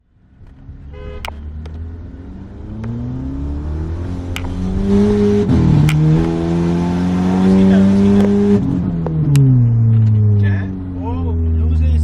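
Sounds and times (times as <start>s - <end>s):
car engine accelerating: 0.3s - 12.0s.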